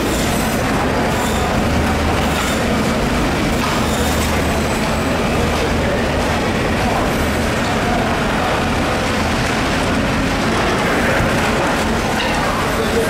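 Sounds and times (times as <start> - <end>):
machine drone with hiss: 0.0 - 13.0.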